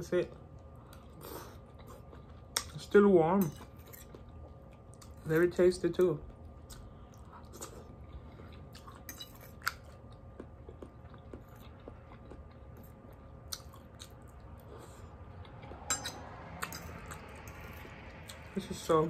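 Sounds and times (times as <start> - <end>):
person chewing food: 0.3 - 2.9, 3.5 - 5.5, 6.2 - 18.5.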